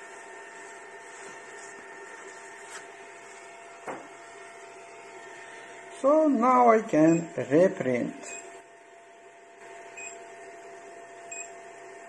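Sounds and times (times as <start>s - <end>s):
printer cooling fans humming: 0.0s - 12.0s.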